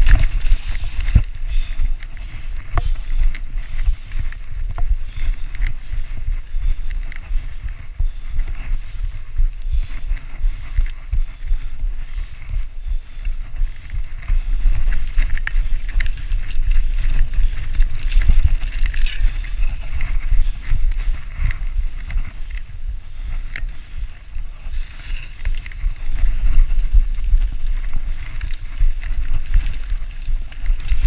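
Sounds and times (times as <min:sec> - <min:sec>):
bike rattling over bumps: 0:00.0 - 0:31.0
tyres crunching on dirt: 0:00.0 - 0:31.0
wind buffeting microphone: 0:00.0 - 0:31.0.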